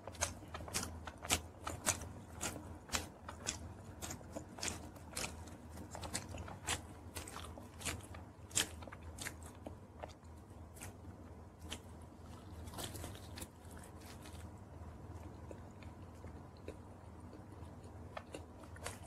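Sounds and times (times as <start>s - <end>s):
crunching pizza crust: 0.0s - 19.0s.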